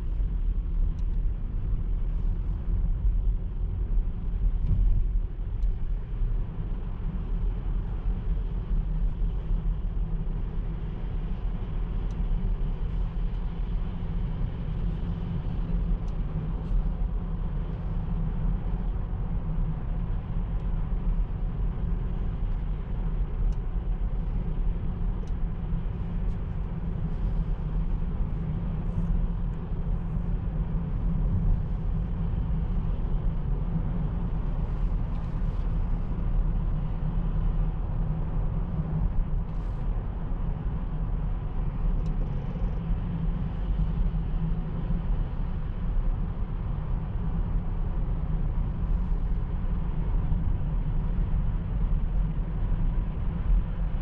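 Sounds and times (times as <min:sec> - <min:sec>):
wind noise in car cabin: 0:00.0 - 0:54.0.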